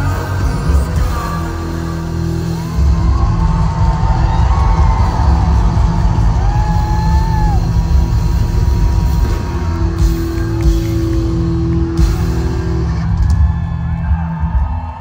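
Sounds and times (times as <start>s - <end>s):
live rock band playing loudly: 0.0s - 14.9s
heavy bass drone: 0.0s - 15.0s
crowd whooping: 2.1s - 15.0s.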